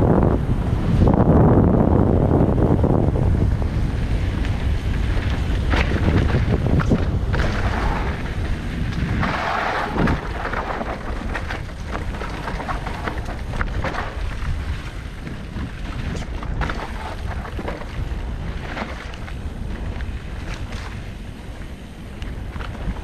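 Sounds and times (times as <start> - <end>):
bike clicking and rattling: 0.0 - 23.0
tyres rumbling on dirt trail: 0.0 - 23.0
wind buffeting microphone: 0.0 - 23.0.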